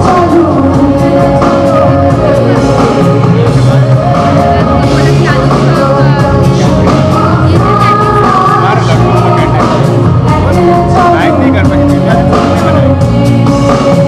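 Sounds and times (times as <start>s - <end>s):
backing music: 0.0s - 14.0s
women singing into microphones: 0.0s - 14.0s.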